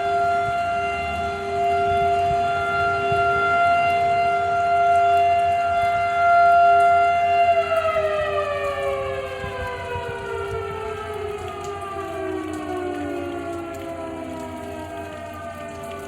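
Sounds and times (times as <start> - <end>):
lower siren tone: 0.0 - 16.0
tornado sirens wailing: 0.0 - 16.0.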